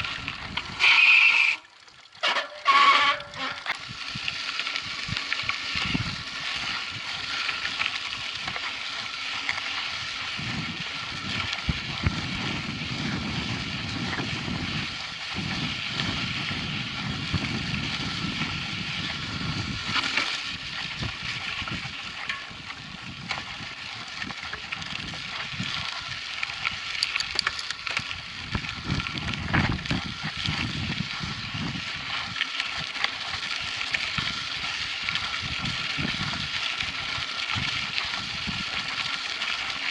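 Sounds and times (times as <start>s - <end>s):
bike clicks and rattles: 0.0s - 39.9s
tyre and chain noise: 2.2s - 36.8s
wind buffeting microphone: 3.8s - 39.2s.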